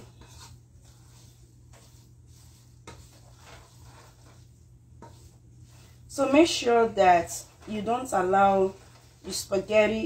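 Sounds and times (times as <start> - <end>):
utensil scraping a pot: 0.0 - 10.0.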